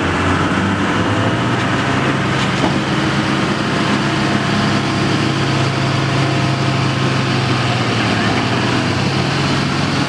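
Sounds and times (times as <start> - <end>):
heavy diesel engines running: 0.0 - 10.0.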